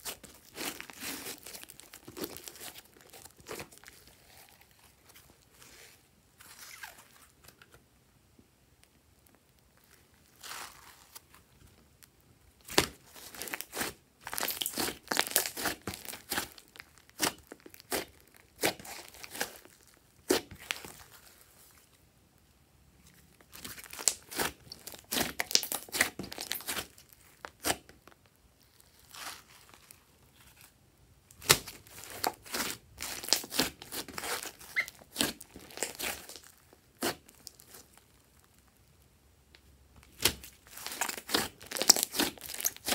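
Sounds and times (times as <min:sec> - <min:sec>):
hands squishing fluffy slime: 0:00.0 - 0:07.5, 0:09.2 - 0:12.0, 0:12.6 - 0:22.0, 0:23.1 - 0:39.0, 0:40.0 - 0:42.9.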